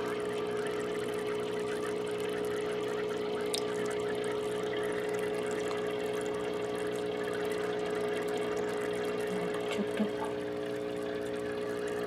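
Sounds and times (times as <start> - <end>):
air bubbling through water: 0.0 - 12.0
aquarium air pump humming: 0.0 - 12.0.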